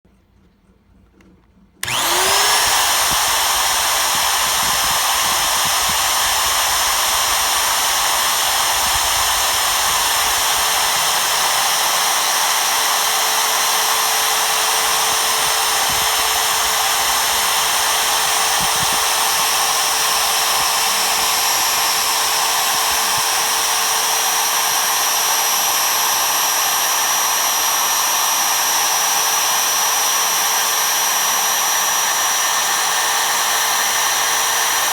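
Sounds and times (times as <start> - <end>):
spindle motor whining: 1.8 - 34.9.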